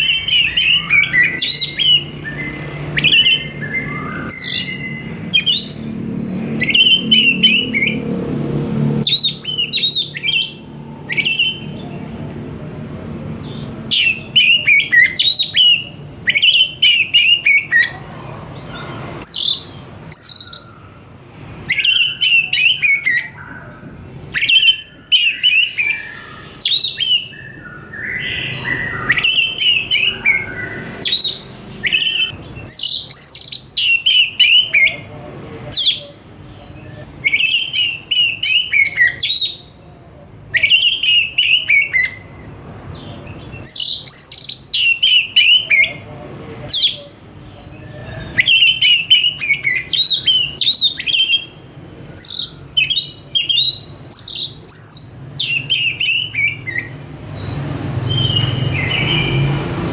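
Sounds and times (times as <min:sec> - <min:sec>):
songbird whistles and chattering: 0:00.0 - 0:08.0, 0:09.0 - 0:12.2, 0:13.2 - 0:18.0, 0:18.6 - 0:21.0, 0:21.6 - 0:35.1, 0:35.7 - 0:39.9, 0:40.5 - 0:46.0, 0:46.7 - 0:59.5.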